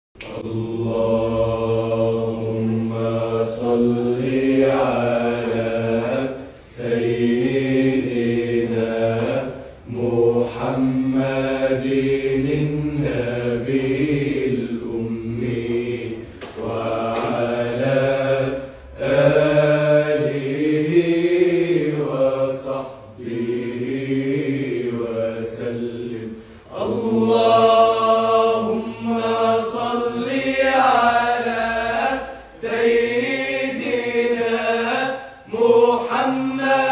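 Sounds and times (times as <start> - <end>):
men chanting devotional song: 0.2 - 36.9.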